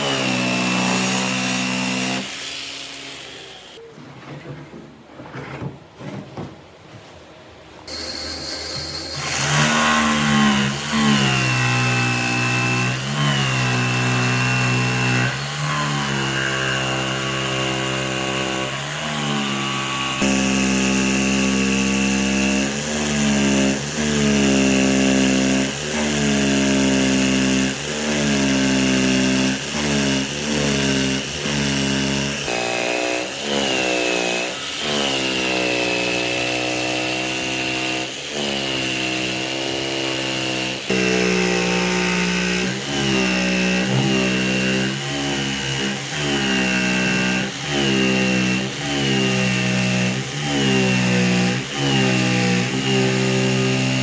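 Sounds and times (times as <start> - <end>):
power tool cutting wood: 0.0 - 3.8, 7.9 - 54.0.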